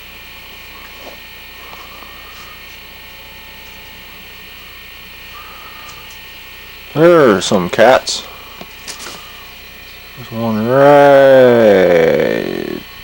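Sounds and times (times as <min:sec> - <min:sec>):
electrical hum with hiss: 0:00.0 - 0:13.0.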